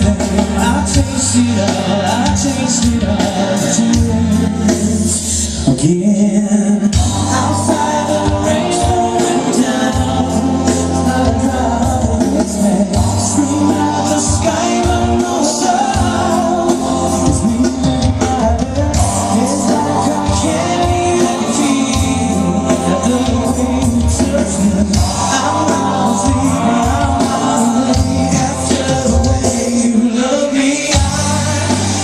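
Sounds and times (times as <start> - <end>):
drums keeping a steady beat: 0.0 - 32.0
live pop-rock band: 0.0 - 32.0
male lead vocal: 0.0 - 32.0.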